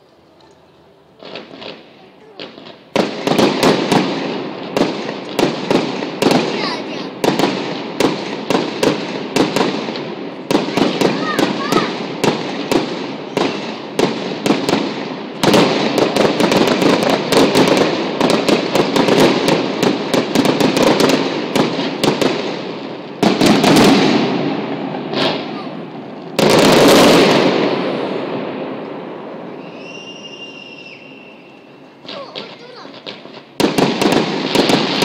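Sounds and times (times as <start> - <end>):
fireworks cracks and bangs: 0.0 - 35.0
booming firework bursts: 1.2 - 35.0.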